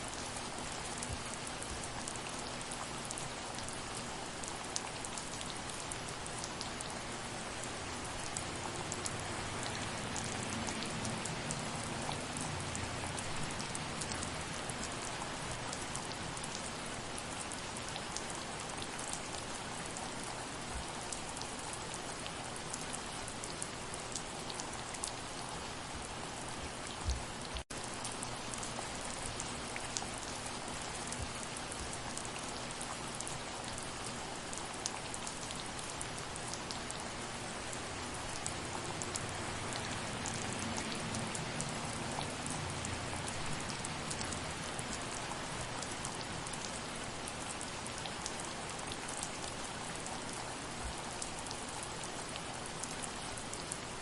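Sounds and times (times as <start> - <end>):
soft rain: 0.0 - 54.0.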